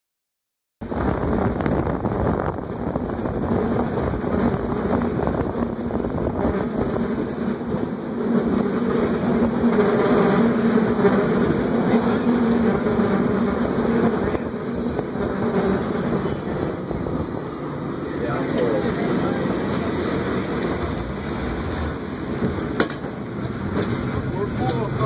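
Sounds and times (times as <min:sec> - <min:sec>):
cable car rumbling on rails: 0:00.8 - 0:25.0.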